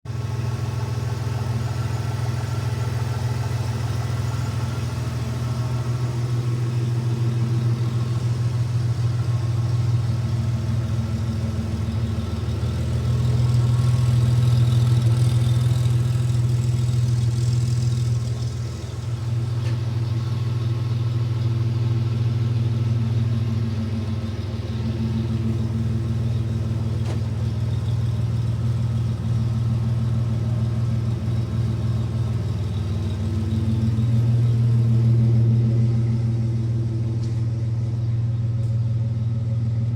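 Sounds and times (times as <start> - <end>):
engine idling with exhaust leak: 0.0 - 39.9.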